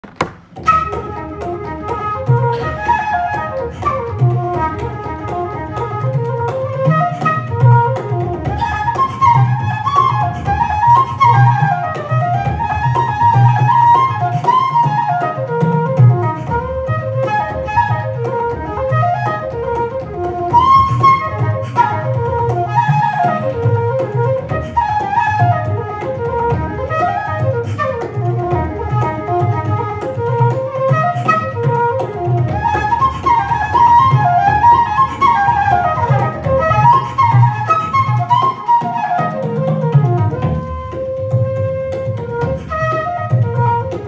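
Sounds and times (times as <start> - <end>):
flute playing fast melody: 0.5 - 44.0.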